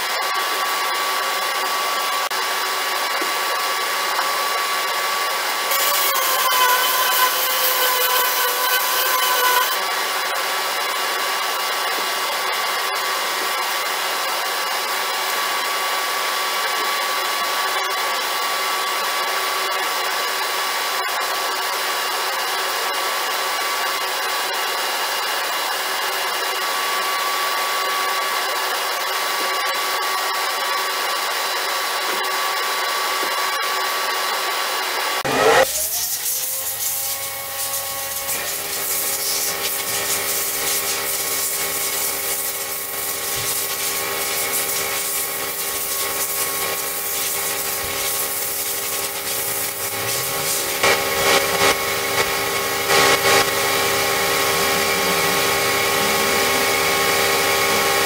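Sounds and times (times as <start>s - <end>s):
small electric motor whining: 0.0s - 19.9s, 26.0s - 58.0s.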